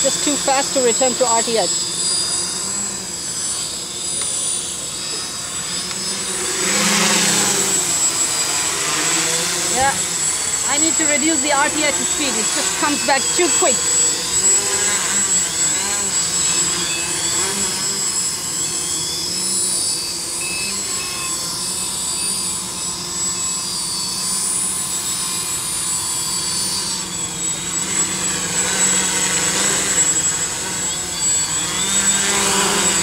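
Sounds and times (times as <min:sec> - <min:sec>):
drone propellers humming: 0:00.0 - 0:33.0
thin high whine: 0:00.0 - 0:33.0.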